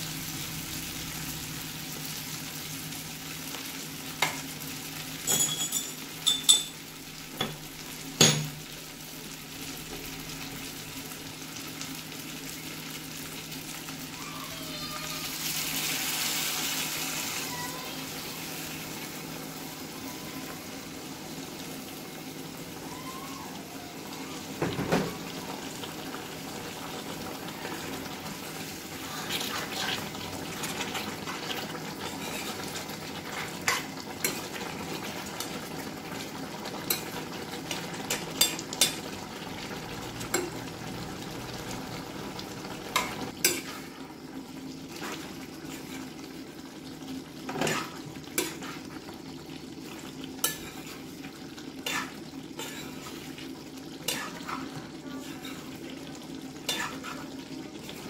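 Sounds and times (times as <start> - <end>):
curry simmering and sizzling: 0.0 - 58.0.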